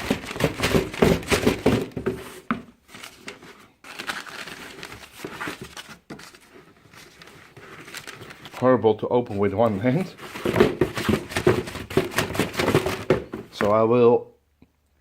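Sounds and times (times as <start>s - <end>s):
paper and cardboard rustling: 0.0s - 13.9s.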